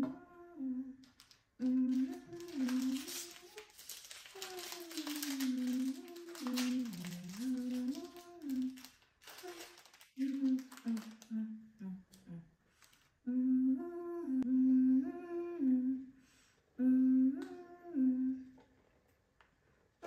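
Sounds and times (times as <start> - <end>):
person humming: 0.0 - 12.6, 13.2 - 16.2, 16.8 - 18.6.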